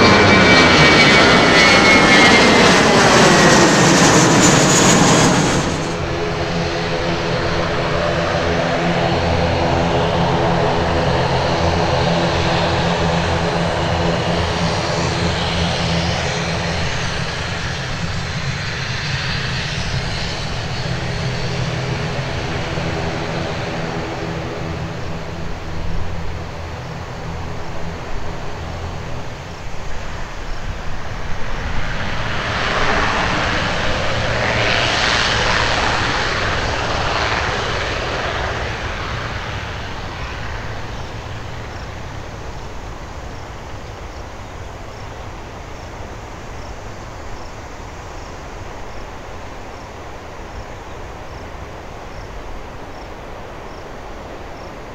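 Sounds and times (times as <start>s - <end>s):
turboprop engines roaring: 0.0s - 54.9s.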